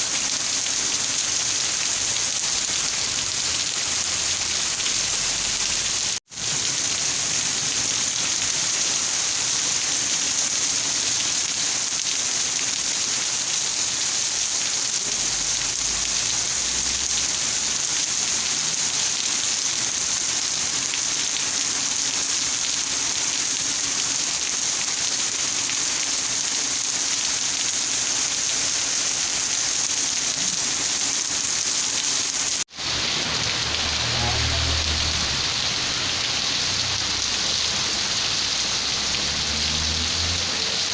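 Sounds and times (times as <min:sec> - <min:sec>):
dense rain falling: 0:00.0 - 0:40.9.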